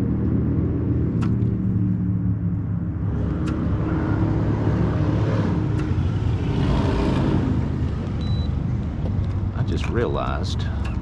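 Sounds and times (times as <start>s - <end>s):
engine rumble of passing motor: 0.0s - 11.0s.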